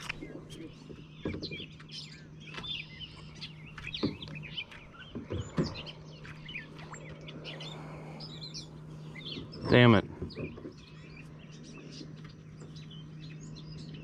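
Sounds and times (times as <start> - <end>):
songbirds chirping and singing: 0.0 - 14.0
steady low hum: 0.0 - 14.0.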